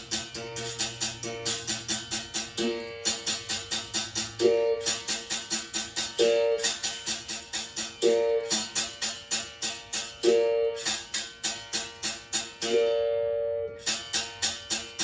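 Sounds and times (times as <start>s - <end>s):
berimbau strokes: 0.0s - 12.8s.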